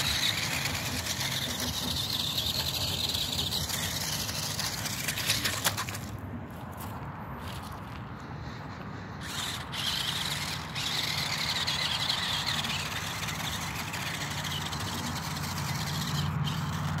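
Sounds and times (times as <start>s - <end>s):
toy car electric motor whining: 0.0s - 6.1s, 9.2s - 17.0s.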